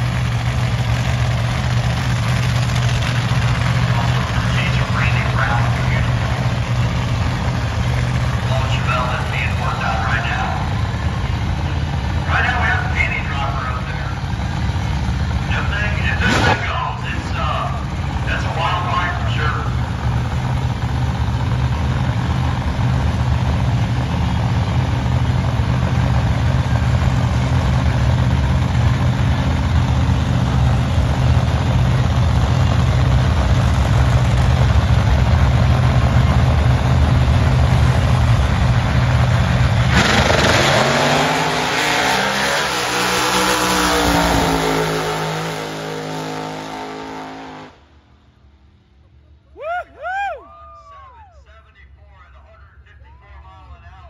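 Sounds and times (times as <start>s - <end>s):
racing car engine revving: 0.0s - 47.8s.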